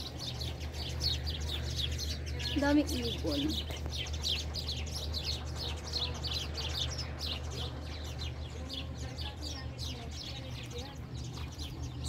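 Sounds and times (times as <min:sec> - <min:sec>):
flock of birds chirping: 0:00.0 - 0:12.0.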